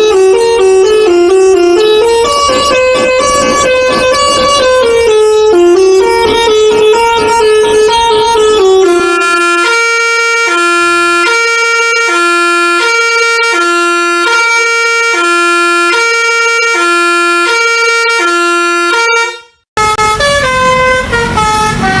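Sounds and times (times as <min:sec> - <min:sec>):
engine noise: 0:00.0 - 0:22.0
falling horn tune: 0:00.0 - 0:22.0
multi-tone bus horn playing a tune: 0:00.0 - 0:22.0.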